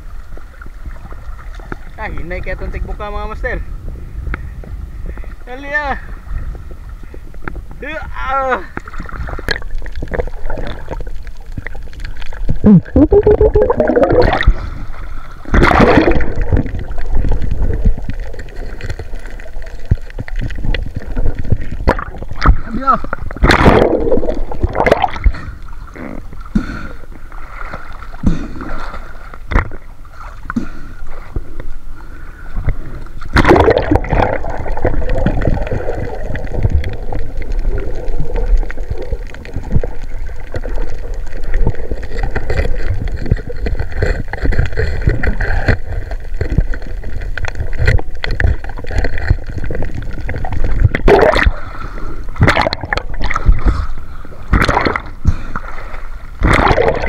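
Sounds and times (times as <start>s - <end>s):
water gurgling and sloshing: 0.0s - 57.0s
water splashes: 5.2s - 57.0s.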